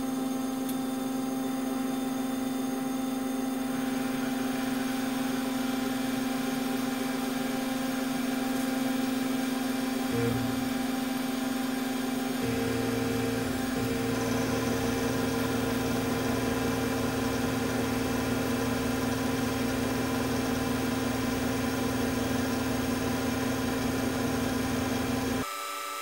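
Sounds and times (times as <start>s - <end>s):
milling machine hum: 0.0s - 25.8s
end mill cutting aluminium: 3.7s - 25.5s.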